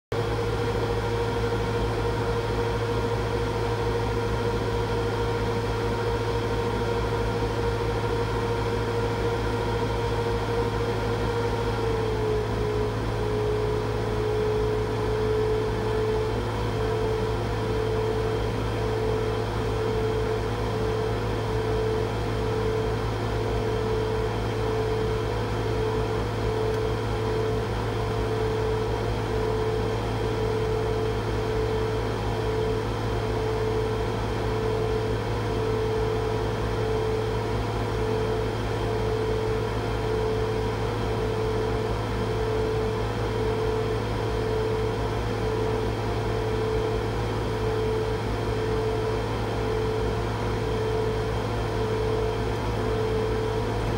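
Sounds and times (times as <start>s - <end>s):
laser cutter hum: 0.1s - 53.9s.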